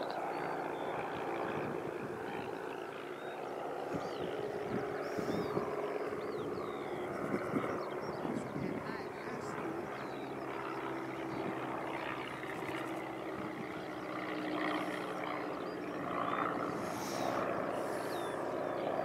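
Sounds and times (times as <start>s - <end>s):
propeller aircraft engine hum: 0.0s - 19.0s.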